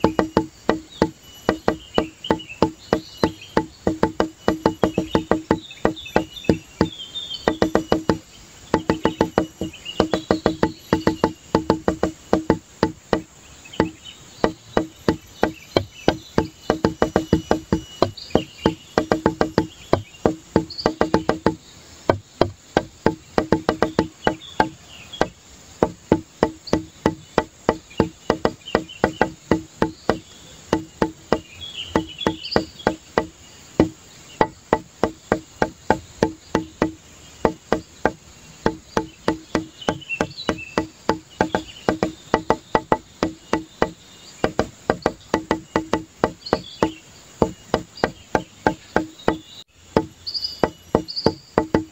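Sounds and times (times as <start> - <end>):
music with woody percussive clicks: 0.0 - 51.9.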